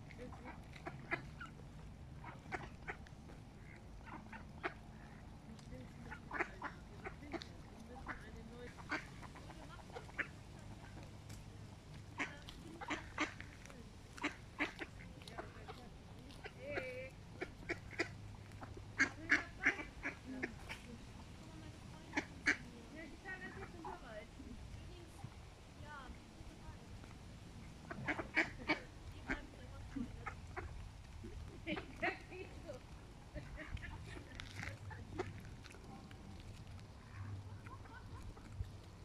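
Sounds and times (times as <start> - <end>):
ducks quacking: 0.0 - 39.0
low outdoor rumble: 0.0 - 39.0.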